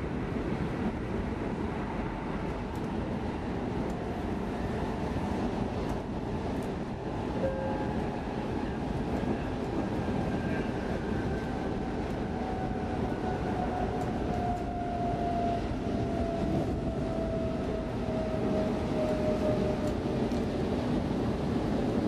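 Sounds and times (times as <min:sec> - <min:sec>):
faint train whine: 0:00.0 - 0:22.0
train rumbling on track: 0:00.0 - 0:22.0.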